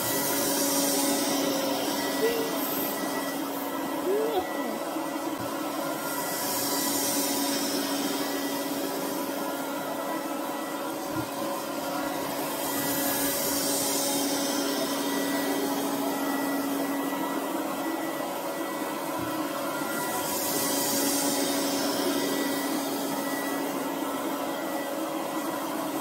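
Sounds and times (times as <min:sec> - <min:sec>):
robot vacuum cleaner running: 0:00.0 - 0:26.0.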